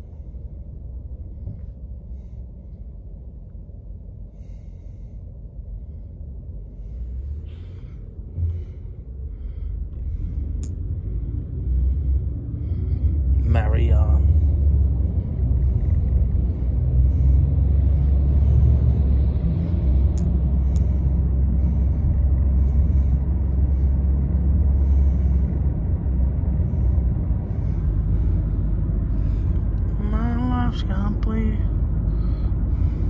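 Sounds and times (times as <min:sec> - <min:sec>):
car road noise rumble: 0:00.0 - 0:33.0.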